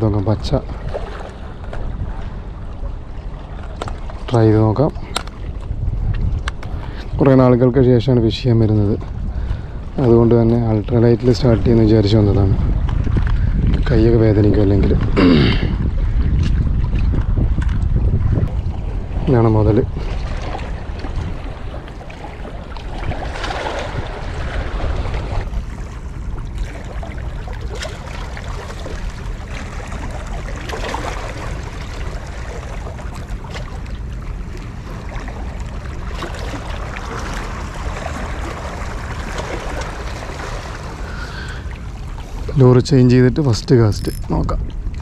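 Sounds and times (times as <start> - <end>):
wind rumbling on microphone: 0.0 - 45.0.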